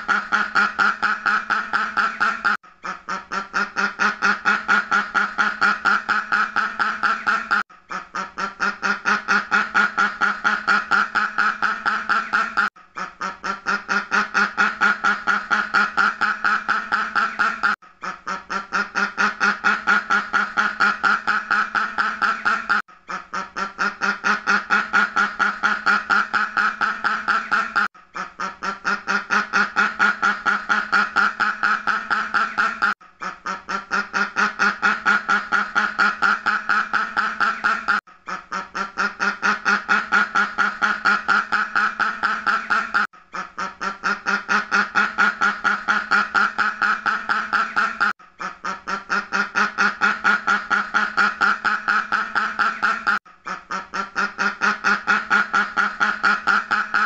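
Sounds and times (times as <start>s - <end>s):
duck quacking rapidly: 0.0s - 57.0s.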